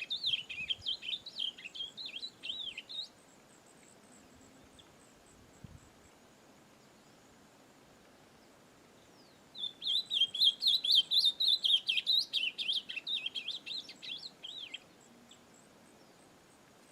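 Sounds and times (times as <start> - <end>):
bird warbling song: 0.0 - 5.9, 8.4 - 16.3.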